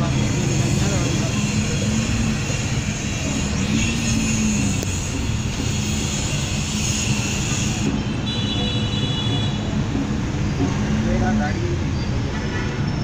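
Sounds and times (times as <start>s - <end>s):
vehicle engine rumble and road noise: 0.0s - 13.0s.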